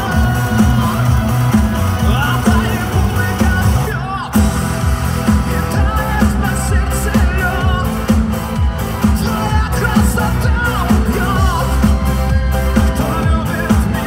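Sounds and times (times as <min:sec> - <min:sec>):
man singing into a microphone: 0:00.0 - 0:14.0
pop-rock band playing: 0:00.0 - 0:14.0.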